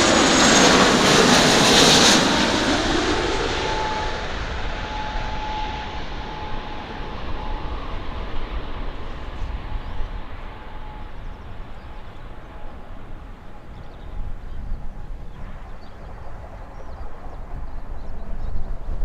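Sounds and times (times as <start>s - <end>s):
jet engine rumble: 0.0s - 19.0s
faint steady whine: 2.7s - 19.0s.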